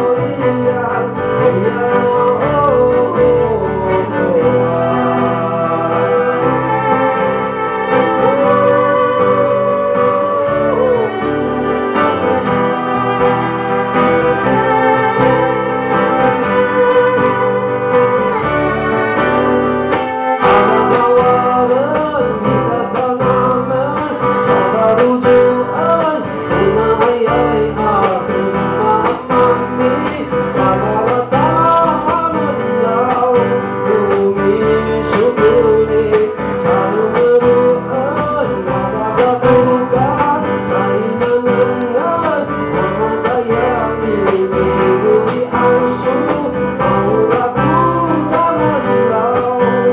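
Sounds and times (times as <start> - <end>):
guitar and band playing: 0.0 - 49.9
person singing: 0.0 - 49.9.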